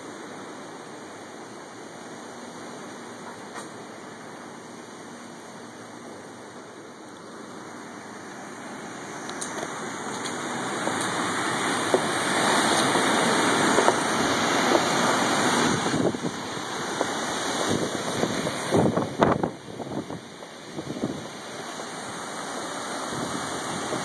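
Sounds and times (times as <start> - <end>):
heavy rain: 0.0 - 24.0
rushing floodwater: 0.0 - 24.0.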